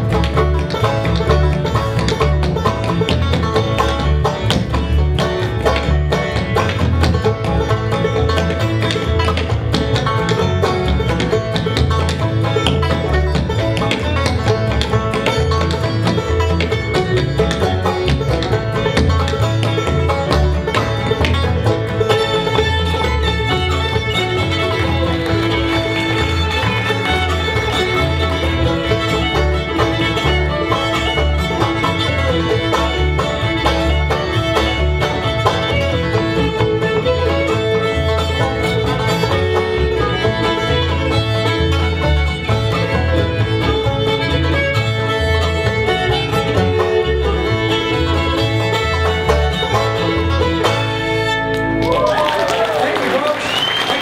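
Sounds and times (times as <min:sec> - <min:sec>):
banjo: 0:00.0 - 0:52.9
upright bass: 0:00.0 - 0:53.7
fiddle melody: 0:00.0 - 0:54.0.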